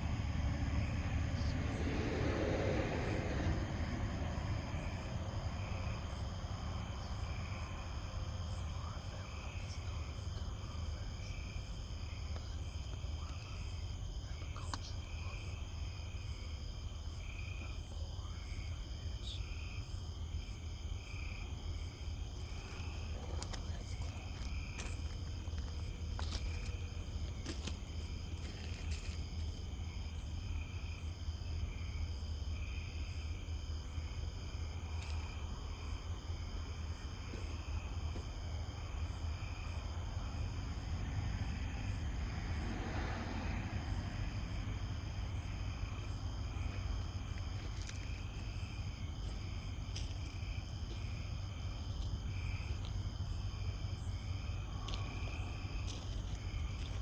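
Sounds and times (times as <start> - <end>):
night insects chirping: 0.0 - 57.0
steady low rumble: 0.0 - 57.0.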